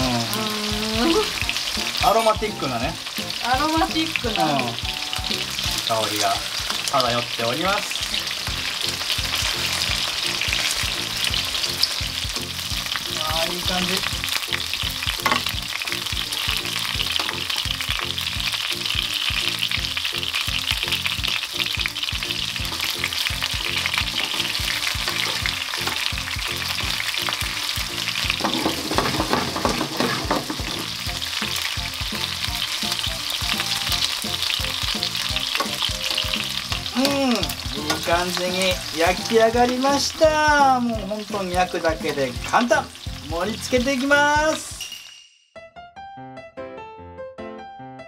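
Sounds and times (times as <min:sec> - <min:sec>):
chicken sizzling in a frying pan: 0:00.0 - 0:44.8.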